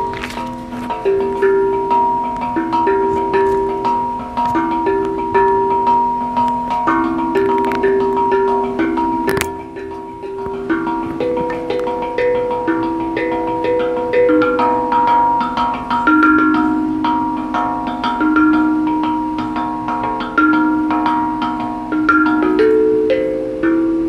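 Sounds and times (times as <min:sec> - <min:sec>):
tuned percussion melody: 0:00.0 - 0:24.0.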